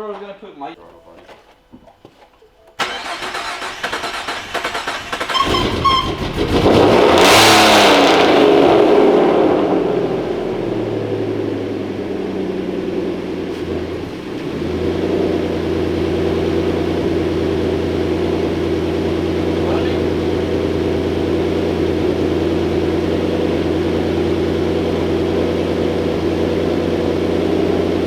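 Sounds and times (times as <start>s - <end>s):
car engine starting and idling: 2.8s - 28.0s.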